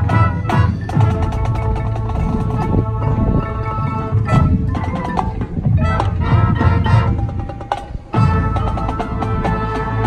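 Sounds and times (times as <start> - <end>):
marching band playing: 0.0 - 10.0.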